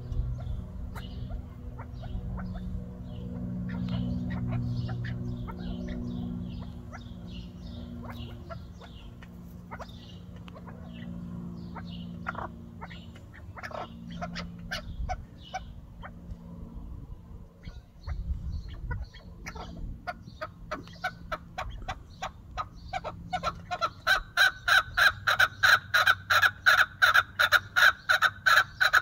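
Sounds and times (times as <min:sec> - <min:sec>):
partridges chirping: 0:00.0 - 0:16.2, 0:17.6 - 0:29.0
steady low hum: 0:00.0 - 0:29.0.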